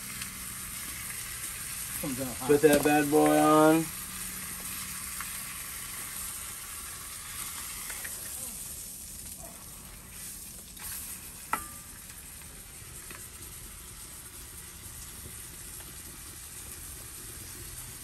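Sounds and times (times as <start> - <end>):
steak sizzling in a skillet: 0.0 - 18.0.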